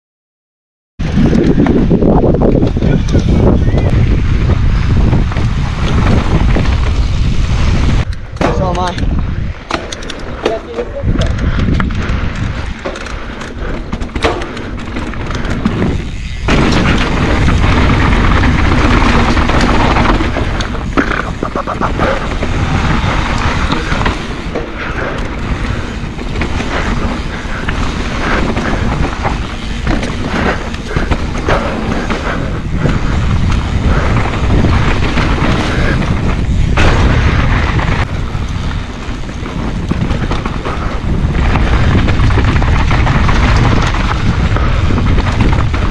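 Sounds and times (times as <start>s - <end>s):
bike rattling over rough ground: 1.0s - 45.9s
bike tyre noise: 1.0s - 45.9s
wind rushing over microphone: 1.0s - 45.9s.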